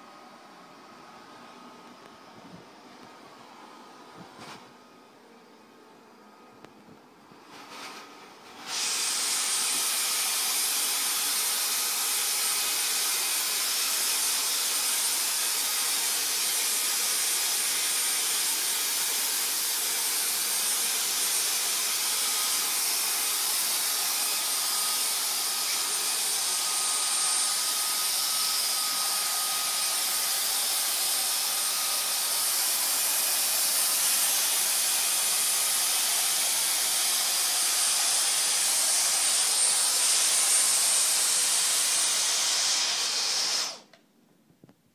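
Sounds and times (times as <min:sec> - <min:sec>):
handheld vacuum running: 0:07.5 - 0:44.0
vacuum nozzle on fur: 0:07.6 - 0:43.9.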